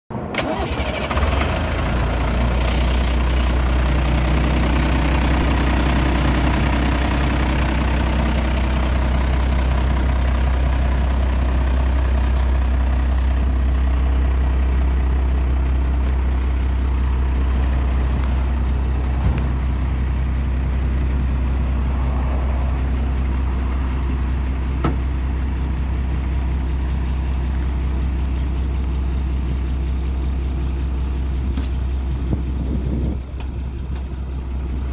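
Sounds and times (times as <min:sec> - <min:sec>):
truck diesel engine idling: 0:00.1 - 0:34.9.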